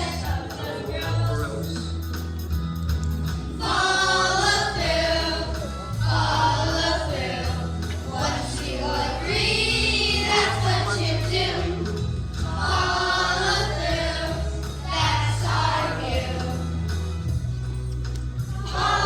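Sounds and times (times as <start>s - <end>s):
children's choir singing: 0.0s - 1.7s, 3.5s - 16.8s, 18.5s - 19.0s
bass line: 0.0s - 19.0s.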